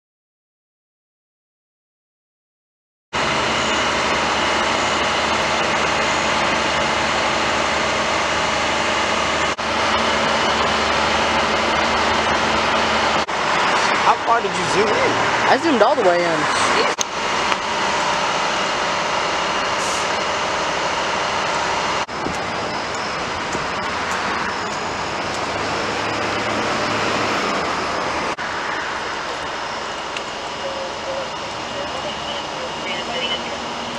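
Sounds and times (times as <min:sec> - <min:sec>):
roar of traffic engines: 0:03.2 - 0:33.9.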